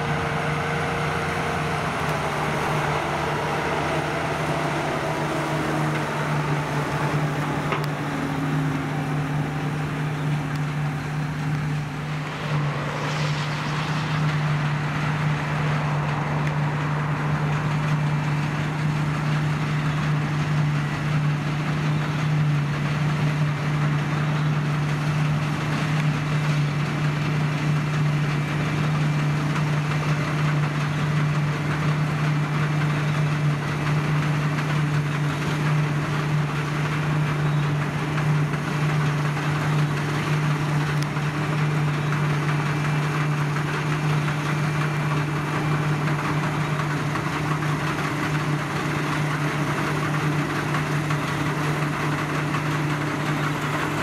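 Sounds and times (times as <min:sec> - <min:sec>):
combine harvester engine hum: 0:00.0 - 0:54.0
working machinery noise: 0:00.0 - 0:54.0.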